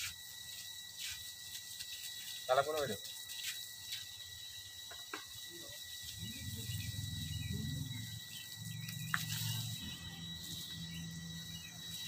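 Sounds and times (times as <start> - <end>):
high insect buzz: 0.0 - 12.0
hose spraying water onto soil: 0.0 - 12.0.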